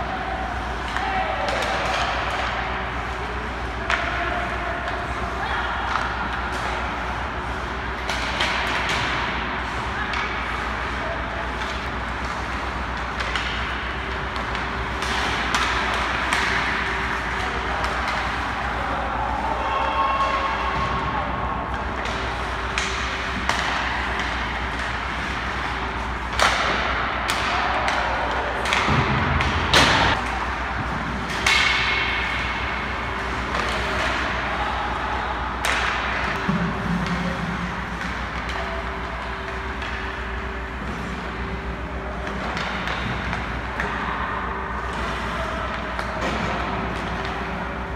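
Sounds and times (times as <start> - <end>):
pucks and sticks hitting: 0.0 - 47.9.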